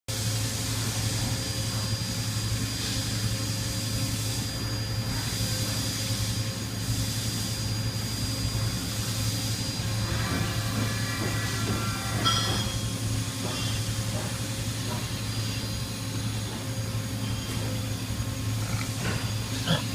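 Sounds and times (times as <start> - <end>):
machine hiss: 0.1 - 19.9
milling machine hum: 0.1 - 19.9.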